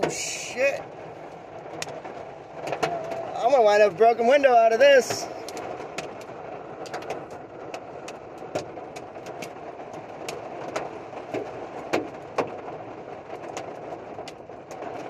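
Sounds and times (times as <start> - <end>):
hailstones hitting truck: 0.0 - 15.0
rain on truck cab: 0.0 - 15.0.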